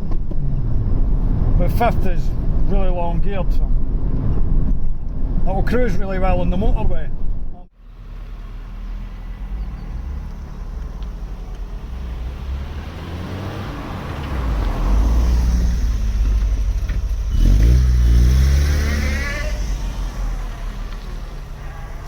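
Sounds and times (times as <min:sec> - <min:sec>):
car engine and road noise hum: 0:00.0 - 0:22.0.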